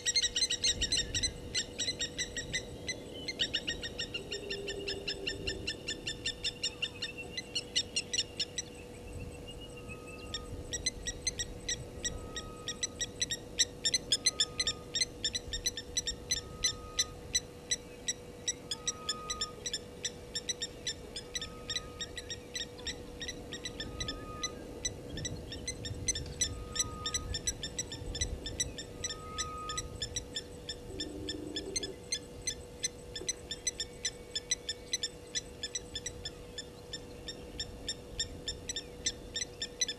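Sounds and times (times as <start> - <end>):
faint steady hum: 0.0 - 39.9
wild birds chirping: 0.0 - 39.9.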